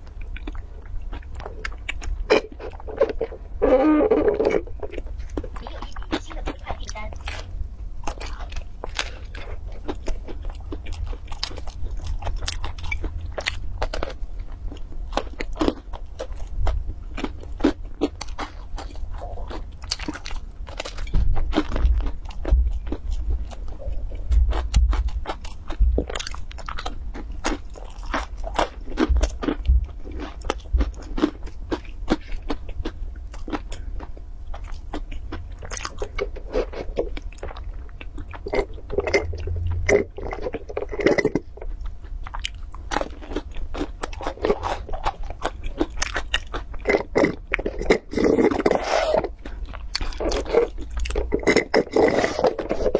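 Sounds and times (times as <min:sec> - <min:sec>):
crunching and chewing pastry: 0:00.0 - 0:52.9.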